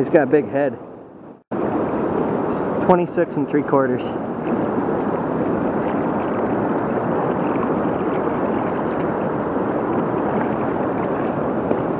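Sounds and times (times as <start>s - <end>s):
river current rushing: 1.6s - 11.9s.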